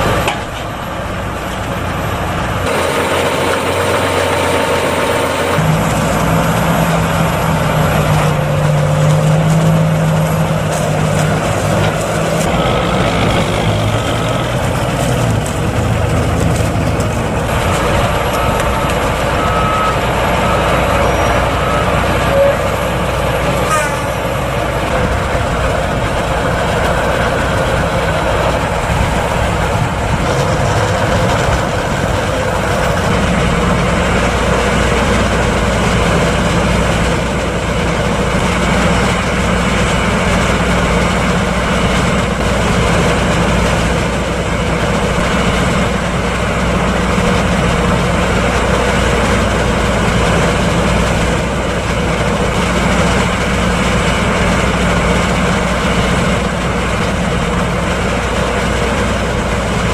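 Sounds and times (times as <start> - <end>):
tractor engine hum: 0.0 - 59.9.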